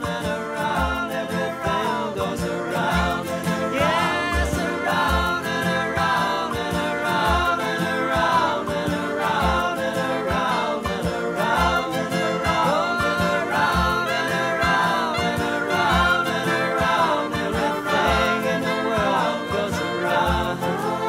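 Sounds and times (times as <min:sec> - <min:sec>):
instrumental song melody: 0:00.0 - 0:21.0.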